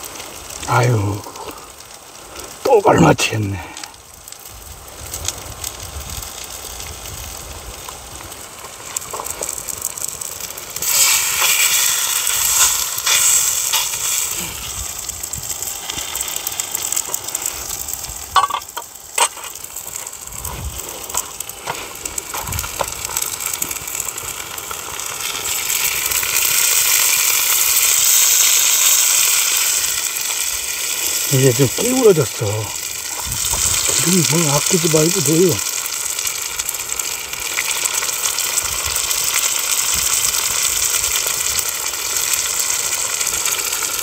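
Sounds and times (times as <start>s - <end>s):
fish sizzling in hot oil: 0.0s - 44.0s.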